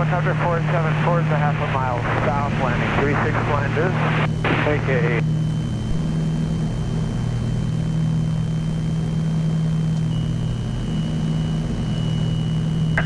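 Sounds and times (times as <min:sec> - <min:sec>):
aircraft cabin propeller drone: 0:00.0 - 0:13.0.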